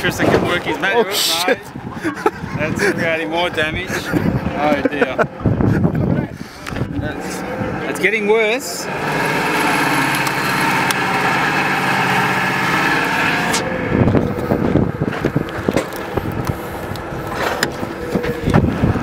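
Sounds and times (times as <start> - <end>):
forklift engine running: 1.6 - 19.0.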